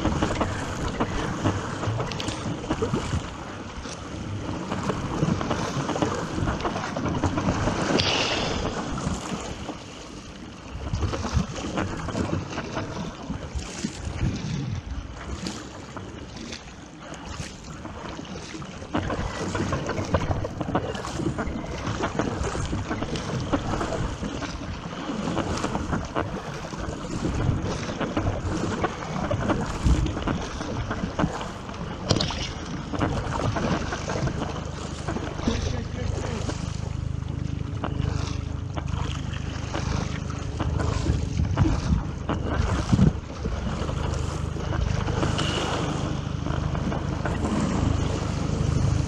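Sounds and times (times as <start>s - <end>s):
wind buffeting microphone: 0.0s - 15.3s, 18.9s - 36.8s, 39.7s - 49.0s
sea water rushing and splashing: 0.0s - 49.0s.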